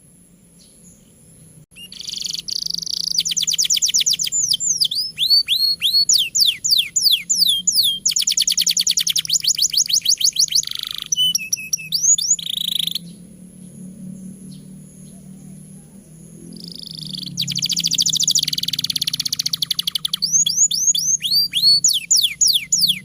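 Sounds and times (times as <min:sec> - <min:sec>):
canary singing: 0:00.6 - 0:23.0.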